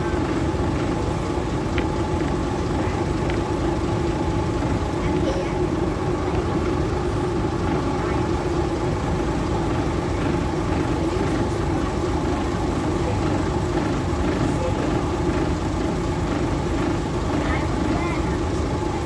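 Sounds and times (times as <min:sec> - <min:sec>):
diesel train engine idling: 0:00.0 - 0:19.0.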